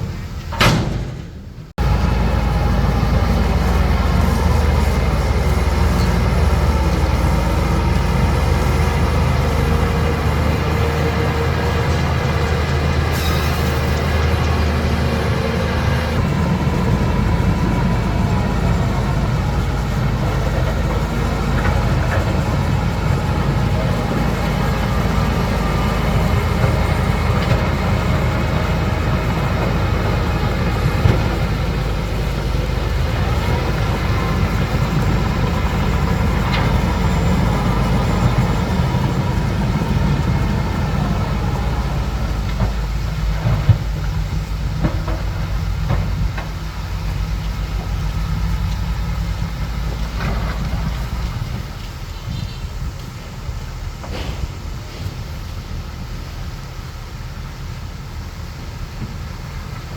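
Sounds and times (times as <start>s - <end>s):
diesel engine running: 0.0s - 59.9s
steel tracks clanking: 0.0s - 59.9s.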